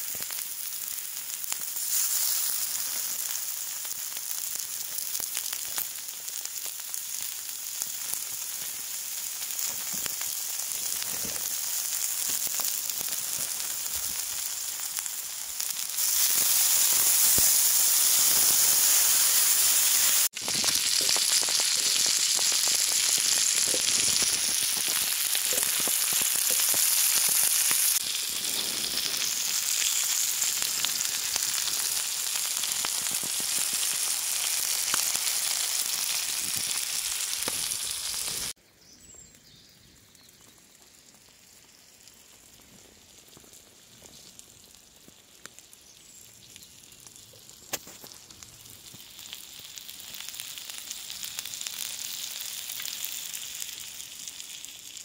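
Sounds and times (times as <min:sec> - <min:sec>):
fat popping and crackling: 0:00.0 - 0:38.6, 0:40.4 - 0:54.1
frog legs sizzling on griddle: 0:00.0 - 0:38.6, 0:39.5 - 0:55.0.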